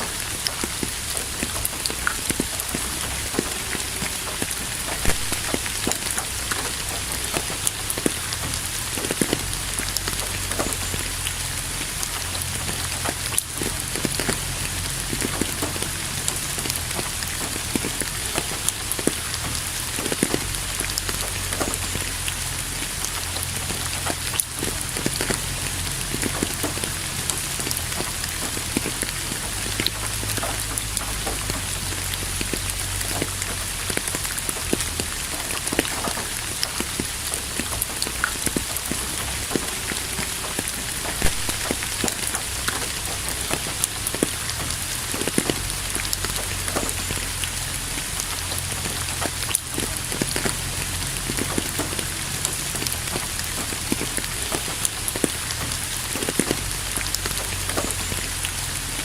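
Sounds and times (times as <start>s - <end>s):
steady rain with ticking drops: 0.0s - 59.0s.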